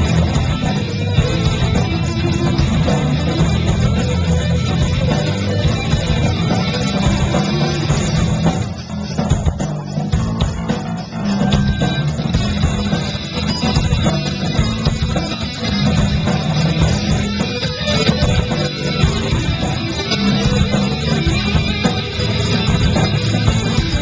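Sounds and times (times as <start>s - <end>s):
bass guitar: 0.0s - 24.0s
drums: 0.0s - 24.0s
electric guitars: 0.0s - 24.0s.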